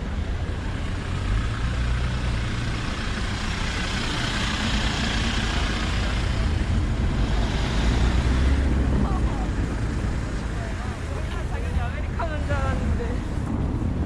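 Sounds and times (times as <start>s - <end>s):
vehicle passing rumble: 0.0s - 14.0s.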